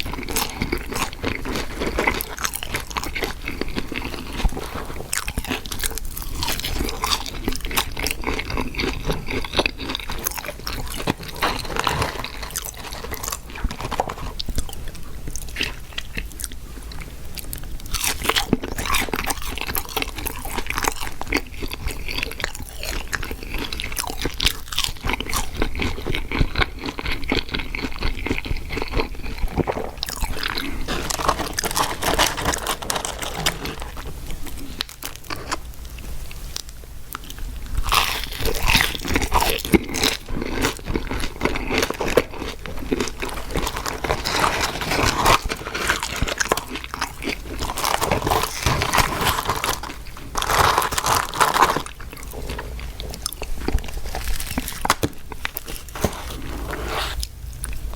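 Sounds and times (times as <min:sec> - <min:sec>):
crunching and chewing crispy food: 0:00.0 - 0:57.9.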